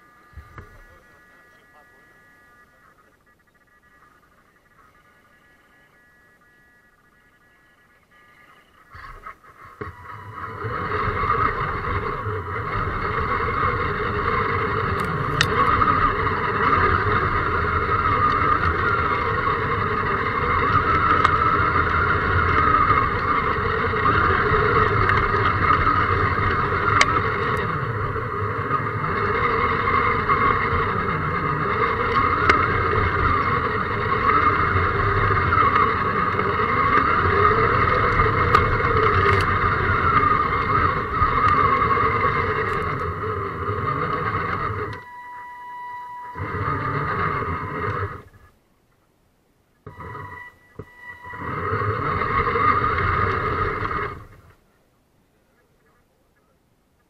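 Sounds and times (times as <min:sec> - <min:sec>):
electric motor whining: 0:00.0 - 0:48.6, 0:49.8 - 0:54.6.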